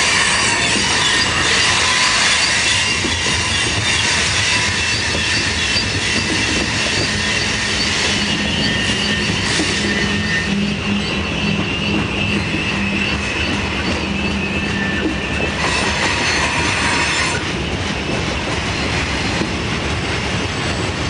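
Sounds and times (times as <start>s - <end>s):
wheels squealing against rails: 0.0s - 21.0s.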